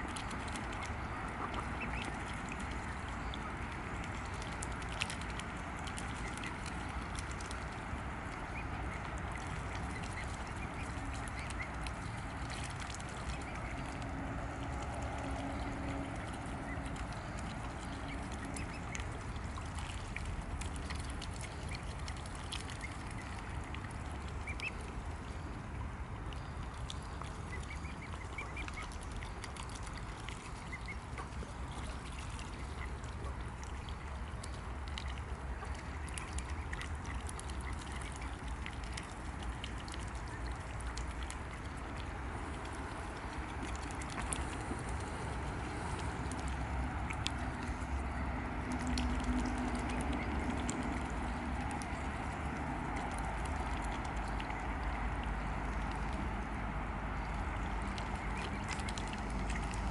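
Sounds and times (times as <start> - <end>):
steady low rumble: 0.0 - 59.9
swan bills dabbling in water: 0.0 - 59.9.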